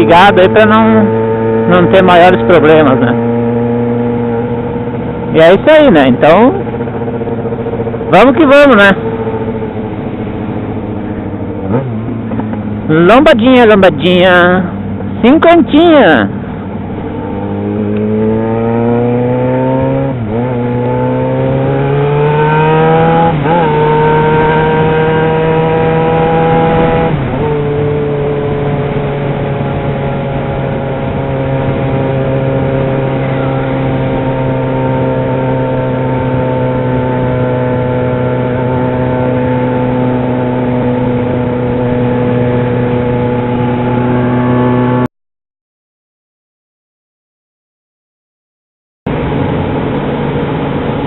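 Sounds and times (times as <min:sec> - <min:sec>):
motorcycle engine accelerating: 0:00.0 - 0:45.1, 0:49.1 - 0:51.0.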